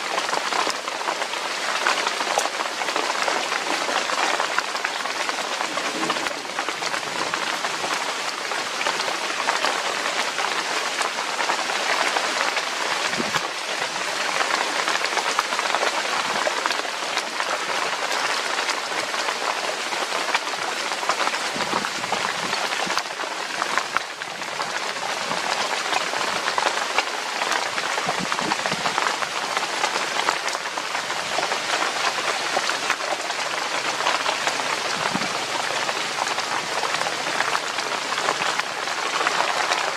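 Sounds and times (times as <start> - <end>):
steady rain on leaves: 0.0 - 39.9.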